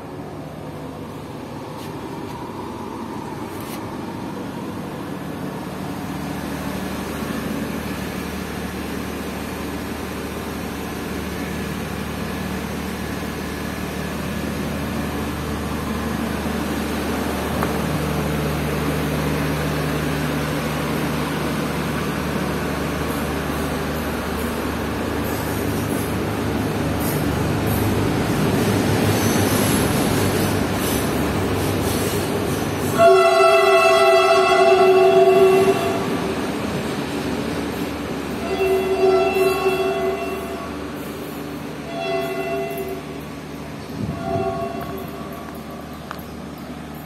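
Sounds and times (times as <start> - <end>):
diesel train engine drone: 0.0 - 47.0
mechanical hum in train carriage: 0.0 - 47.0.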